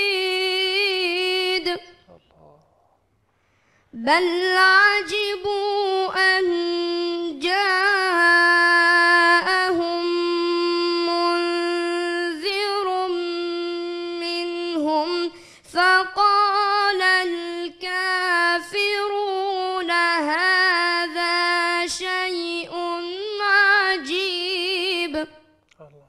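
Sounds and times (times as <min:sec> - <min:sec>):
boy chanting melodic recitation: 0:00.0 - 0:02.6, 0:04.0 - 0:26.0.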